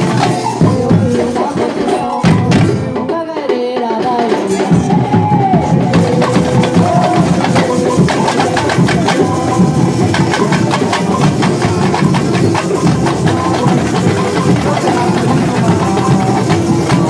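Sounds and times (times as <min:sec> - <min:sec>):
percussion ensemble playing: 0:00.0 - 0:17.0.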